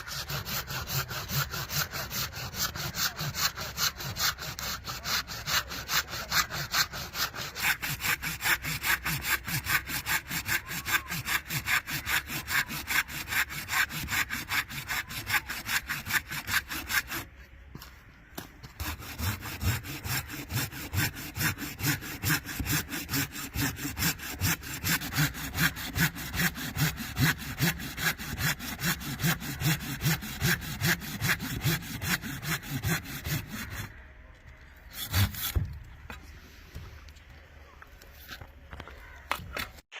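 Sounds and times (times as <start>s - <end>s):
hand saw cutting wood: 0.0s - 17.3s, 18.4s - 34.0s, 34.9s - 35.8s.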